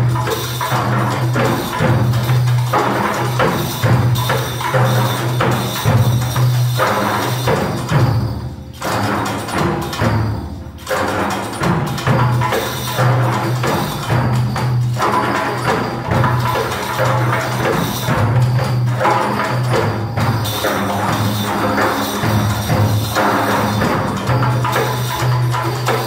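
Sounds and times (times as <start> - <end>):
frame drums and darbukas playing: 0.0 - 26.0.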